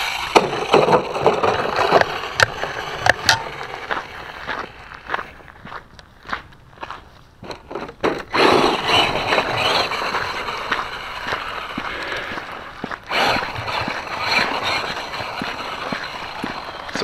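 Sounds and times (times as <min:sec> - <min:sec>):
toy truck tyres crunching gravel: 0:00.0 - 0:17.0.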